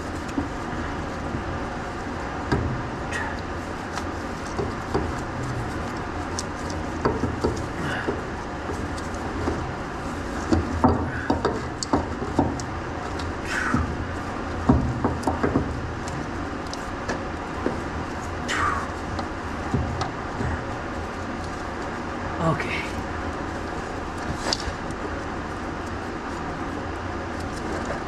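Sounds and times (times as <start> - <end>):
steady low background noise: 0.0 - 28.0.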